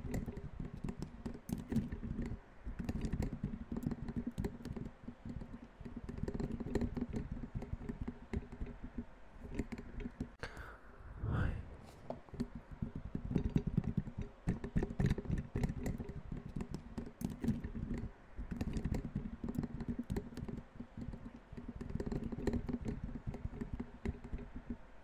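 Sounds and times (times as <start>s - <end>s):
rapid dull tapping: 0.0s - 10.4s, 12.0s - 25.0s.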